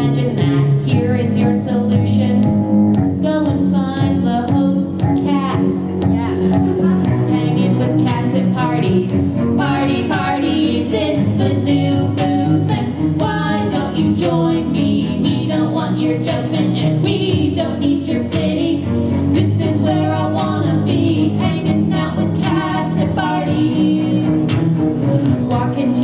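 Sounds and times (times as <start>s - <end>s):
bowed cello: 0.0s - 26.0s
steady beat: 0.0s - 26.0s
woman singing into microphone: 0.0s - 26.0s.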